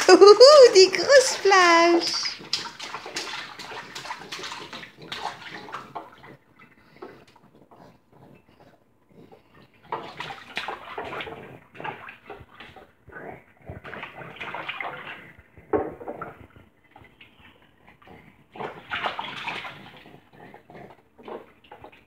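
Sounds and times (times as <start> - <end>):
baby splashing bathwater: 0.0 - 22.0.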